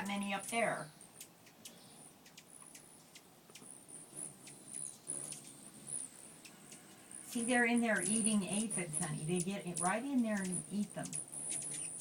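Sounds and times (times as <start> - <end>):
hummingbird high-pitched chips: 0.0 - 12.0.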